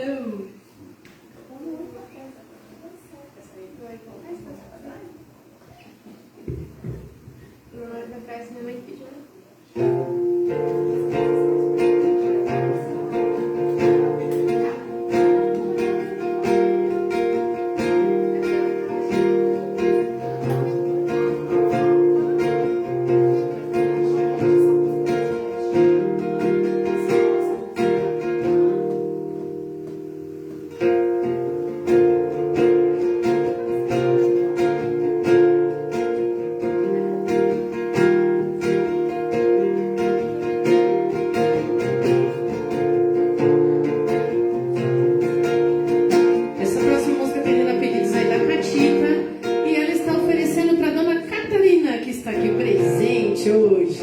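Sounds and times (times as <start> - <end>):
acoustic guitar strumming chords: 9.8 - 54.0.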